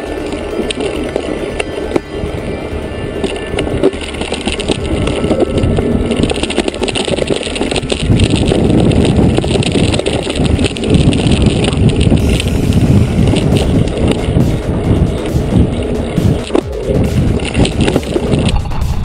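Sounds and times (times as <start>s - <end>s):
bike tyre rumble: 0.0s - 19.0s
wind on microphone: 0.0s - 19.0s
bike knocks and rattles: 3.2s - 19.0s.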